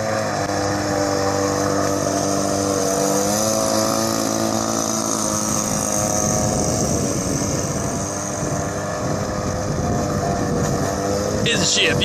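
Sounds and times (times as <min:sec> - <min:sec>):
model boat engine running: 0:00.0 - 0:12.0.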